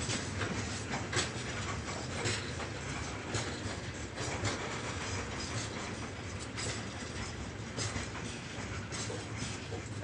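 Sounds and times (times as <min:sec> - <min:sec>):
wheels clicking over rail joints: 0:00.0 - 0:10.0.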